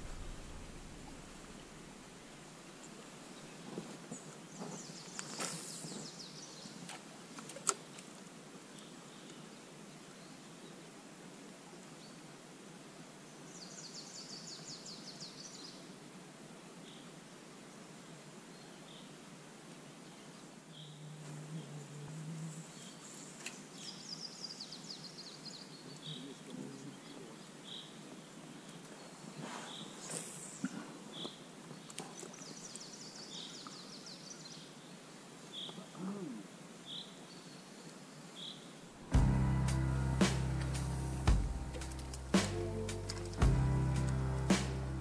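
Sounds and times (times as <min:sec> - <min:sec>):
background hiss: 0:00.0 - 0:45.0.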